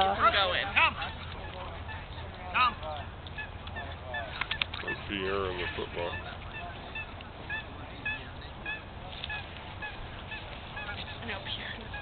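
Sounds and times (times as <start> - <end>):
honking bird calls: 0.6 - 12.0.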